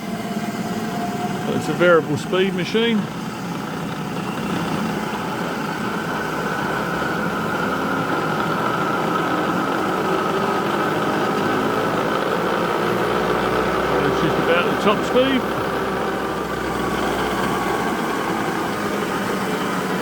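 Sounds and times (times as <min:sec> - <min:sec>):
mill spindle running with whine: 0:00.0 - 0:20.0.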